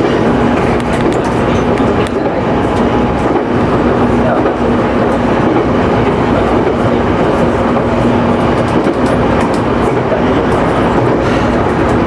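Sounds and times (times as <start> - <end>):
train machinery hum: 0.0 - 12.0
train wheels rumbling on rail: 0.0 - 12.0.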